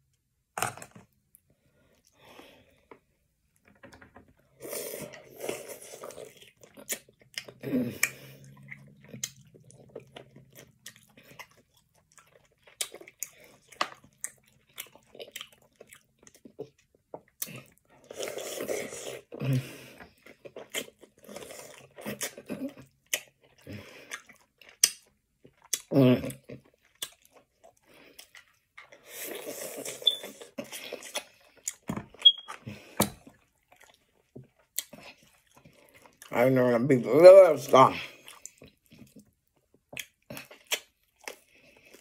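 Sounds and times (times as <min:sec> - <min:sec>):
person chewing food: 0:04.3 - 0:36.4, 0:37.9 - 0:42.0.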